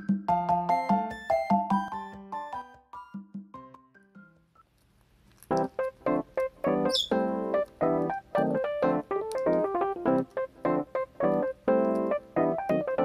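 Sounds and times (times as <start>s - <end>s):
keyboard music in short notes: 0.0s - 4.6s, 5.5s - 13.0s.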